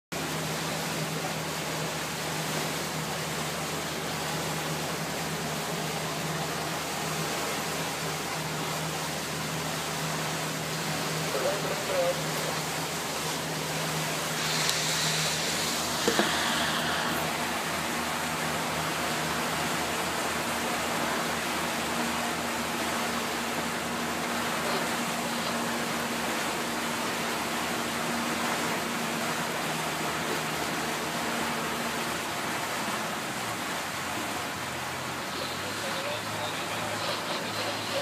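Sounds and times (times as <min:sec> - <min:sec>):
boat engine hum: 0:00.1 - 0:38.0
water and wind rushing: 0:00.1 - 0:38.0.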